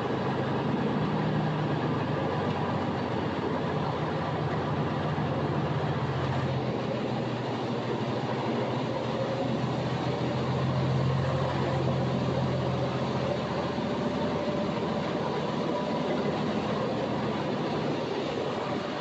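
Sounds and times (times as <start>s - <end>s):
diesel truck engine hum: 0.0s - 19.0s
road noise: 0.0s - 19.0s.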